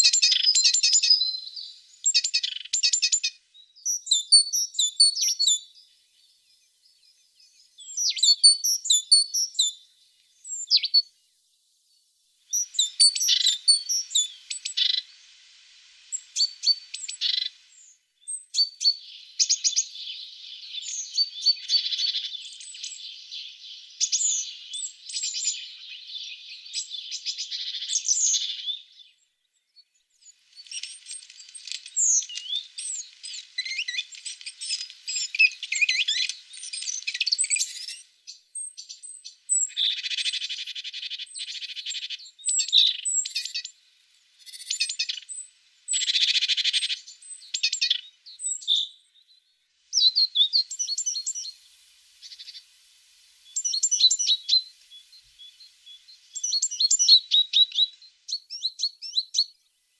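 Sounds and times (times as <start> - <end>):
birds chirping and twittering: 0.0 - 11.3, 11.9 - 59.9.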